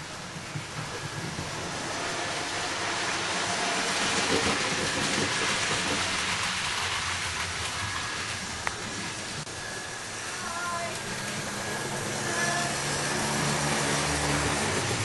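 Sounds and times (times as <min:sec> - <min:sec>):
model train wheels rumbling: 0:00.0 - 0:15.0.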